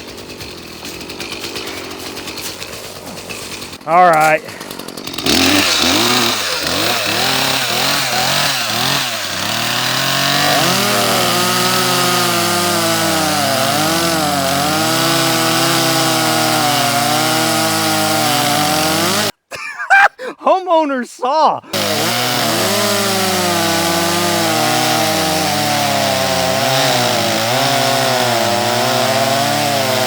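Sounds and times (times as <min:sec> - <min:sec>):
chainsaw cutting through log: 0:00.0 - 0:19.4, 0:21.7 - 0:30.0.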